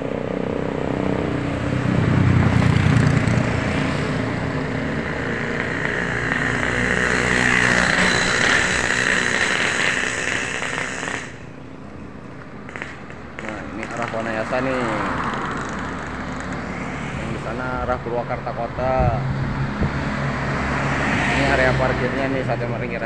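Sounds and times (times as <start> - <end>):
vehicle passing: 0.0 - 11.6, 12.7 - 23.0
engine and tyre noise: 0.0 - 23.0.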